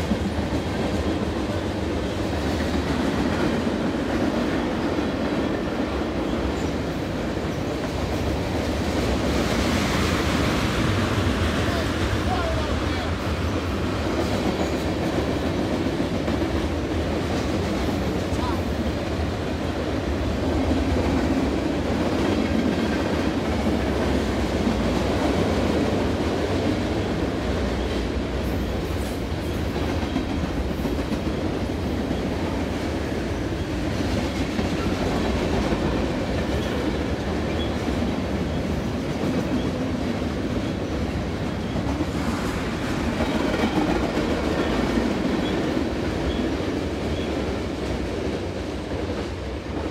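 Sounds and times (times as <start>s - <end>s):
freight train wheels rumbling on rails: 0.0s - 49.9s.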